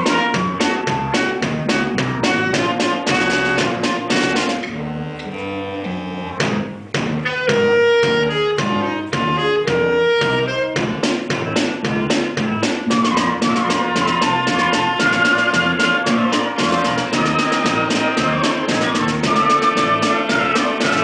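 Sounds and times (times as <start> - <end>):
drum kit beat: 0.0 - 4.7, 6.4 - 21.0
concert band playing: 0.0 - 5.2, 6.2 - 21.0.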